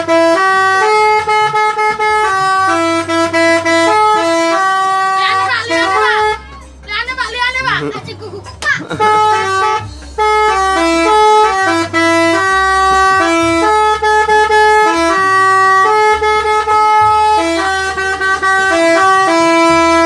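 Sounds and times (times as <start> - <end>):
musical air horn playing a tune: 0.0 - 6.6, 9.0 - 20.0.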